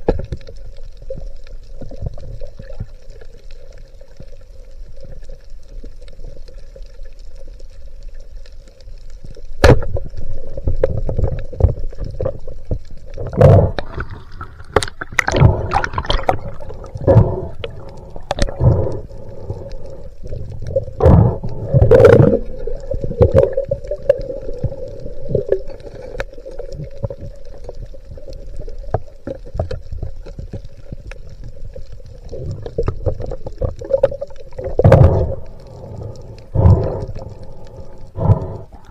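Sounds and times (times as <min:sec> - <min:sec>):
underwater knocks and clicks: 0:00.0 - 0:03.5, 0:09.2 - 0:38.9
steady underwater hum: 0:00.0 - 0:38.9
water gurgling: 0:00.0 - 0:38.9.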